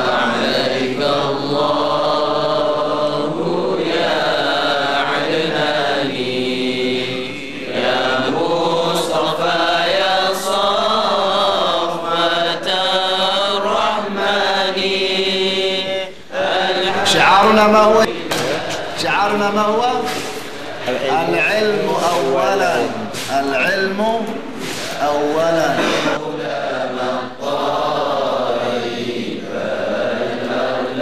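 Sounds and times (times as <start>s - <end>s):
voices singing chant-like: 0.0s - 31.0s.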